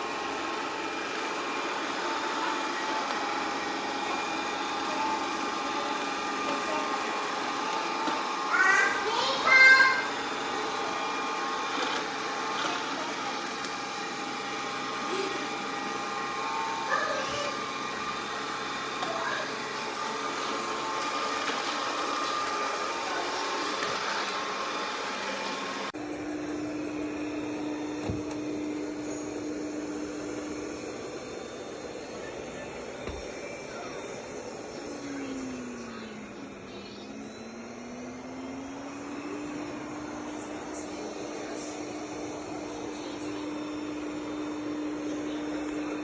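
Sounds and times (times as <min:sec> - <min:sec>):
robot vacuum motor whirring: 0:00.0 - 0:26.0, 0:26.8 - 0:46.0.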